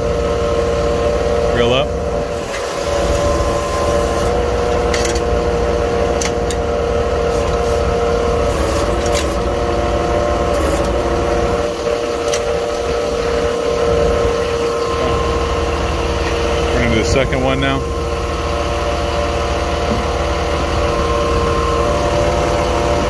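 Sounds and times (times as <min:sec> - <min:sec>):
hose reel drive droning: 0:00.0 - 0:23.0
truck engine running: 0:00.0 - 0:23.0.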